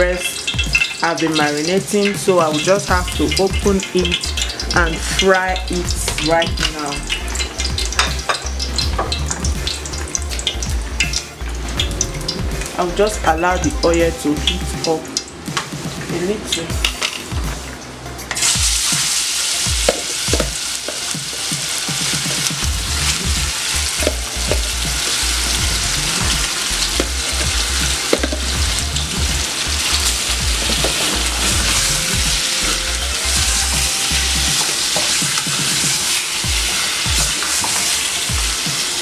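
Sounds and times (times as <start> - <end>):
chicken sizzling in oil: 0.0 - 12.9, 18.3 - 39.0.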